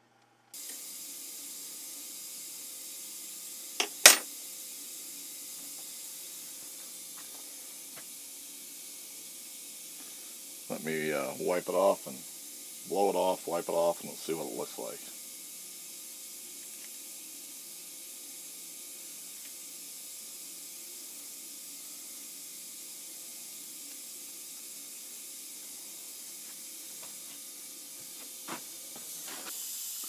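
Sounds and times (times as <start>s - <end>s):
low hum of shop noise: 0.0s - 30.0s
faint hiss: 0.5s - 30.0s.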